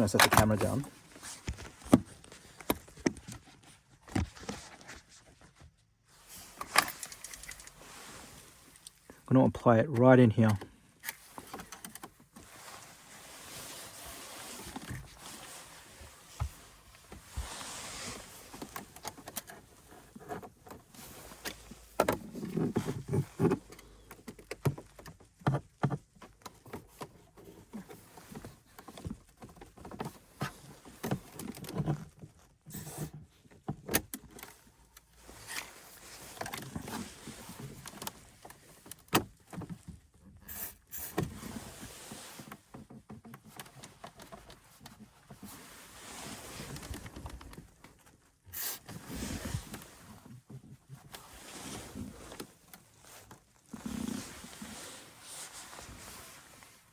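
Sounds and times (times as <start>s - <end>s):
clicks and scrapes of handling: 10.4s - 56.9s.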